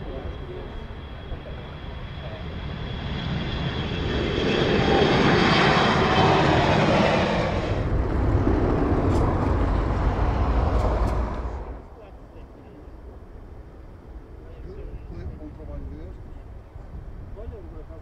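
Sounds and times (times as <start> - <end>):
jet engine roar: 0.0 - 16.8
low jet rumble: 0.0 - 18.0.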